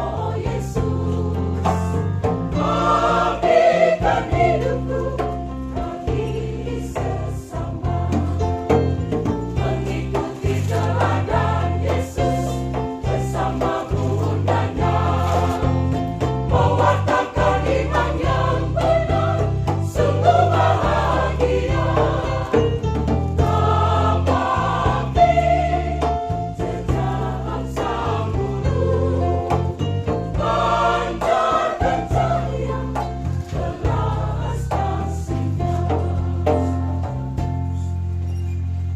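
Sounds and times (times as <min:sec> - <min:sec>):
church choir singing a hymn: 0:00.0 - 0:01.8, 0:02.5 - 0:08.2, 0:09.5 - 0:37.2
instrumental accompaniment: 0:00.0 - 0:38.9.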